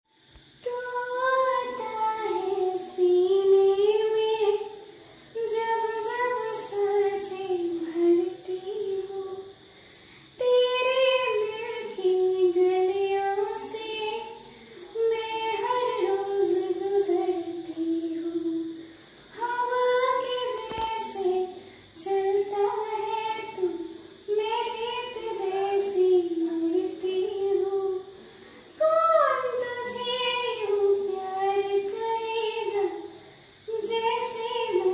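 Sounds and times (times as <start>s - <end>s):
woman singing unaccompanied: 0.4s - 9.7s, 10.3s - 34.9s.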